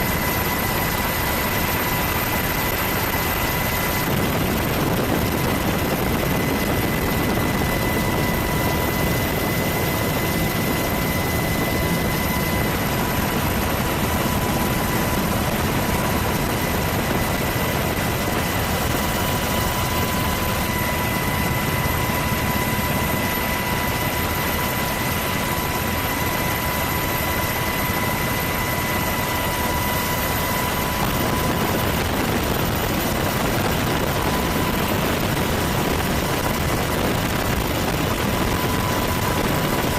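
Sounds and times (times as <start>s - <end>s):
aircraft rushing drone: 0.0s - 39.9s
faint constant whine: 0.0s - 39.9s.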